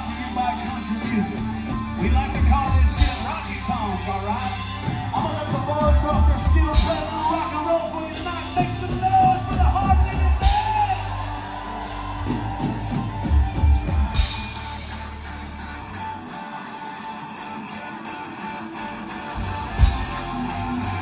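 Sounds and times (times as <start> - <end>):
bass guitar: 0.0 - 21.0
drums: 0.0 - 21.0
electric guitars: 0.0 - 21.0.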